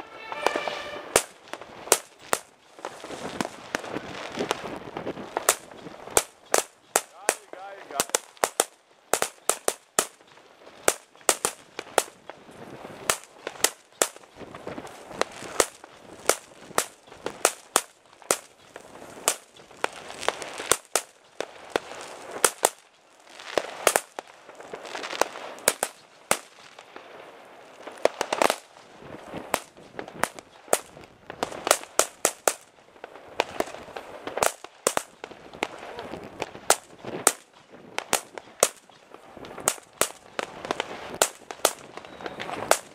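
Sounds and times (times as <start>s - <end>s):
background crackling: 0.0s - 42.9s
firecrackers banging: 0.0s - 42.9s.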